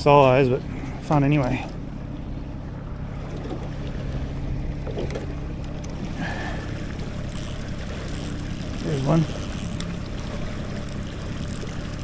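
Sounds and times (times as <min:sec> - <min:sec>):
boat motor humming: 0:00.0 - 0:12.0
water and wind noise: 0:00.0 - 0:12.0.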